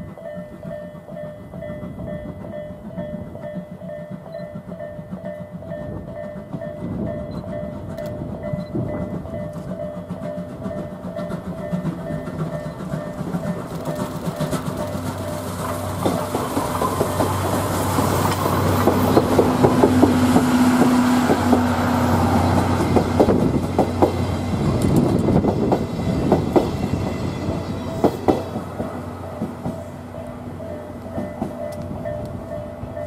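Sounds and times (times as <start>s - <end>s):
steam locomotive running past: 0.0s - 33.0s
train wheels clicking on rail joints: 0.0s - 33.0s.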